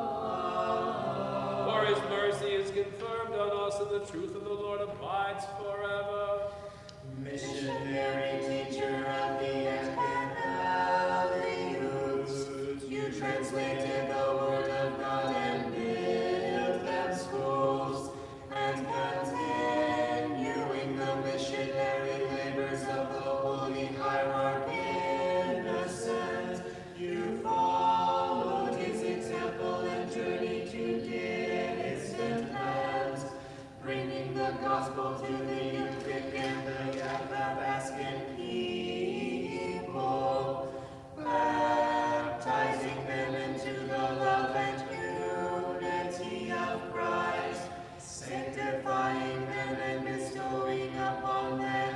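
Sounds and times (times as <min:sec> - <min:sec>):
choir singing a cappella hymn: 0:00.0 - 0:51.9.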